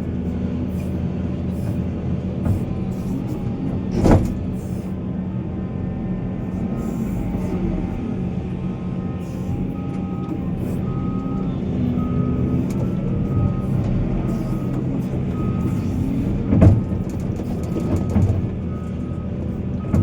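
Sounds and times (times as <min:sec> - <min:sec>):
heavy diesel machinery engine: 0:00.0 - 0:20.0.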